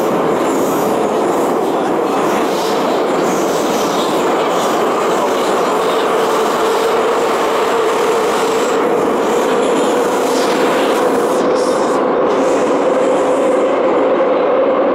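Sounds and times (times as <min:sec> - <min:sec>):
train wheels rumbling: 0:00.0 - 0:14.9.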